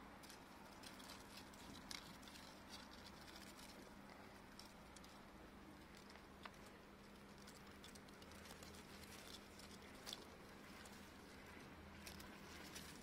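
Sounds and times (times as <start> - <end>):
rustling leaves and dry grass: 0.0 - 13.0.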